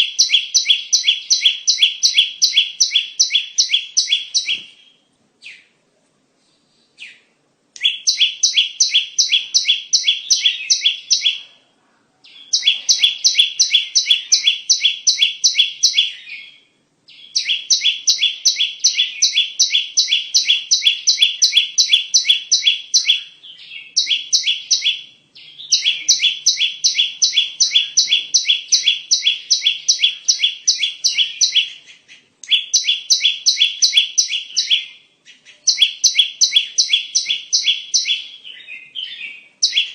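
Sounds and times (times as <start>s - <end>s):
bird chirping rapidly: 0.0s - 5.7s, 7.0s - 11.5s, 12.2s - 39.9s.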